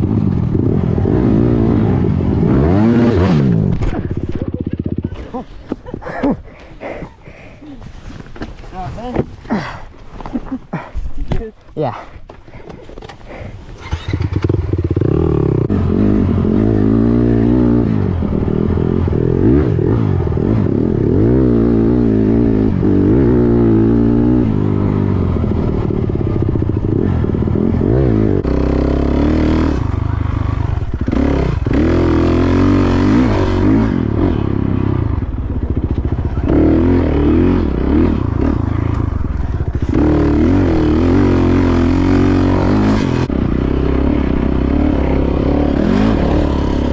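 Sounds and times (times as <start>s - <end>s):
dirt bike engine revving: 0.0s - 5.4s, 13.3s - 46.9s.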